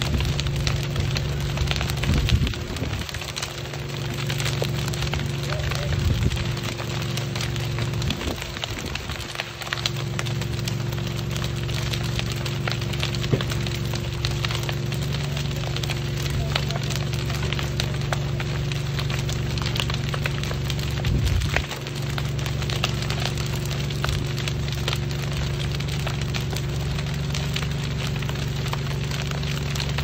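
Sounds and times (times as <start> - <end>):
engine droning: 0.0 - 30.0
fire crackling and popping: 0.0 - 30.0.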